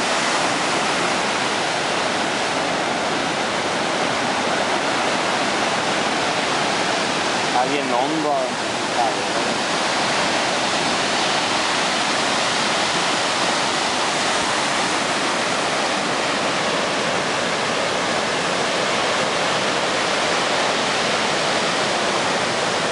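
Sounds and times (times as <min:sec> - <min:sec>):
heavy ocean surf breaking: 0:00.0 - 0:22.9.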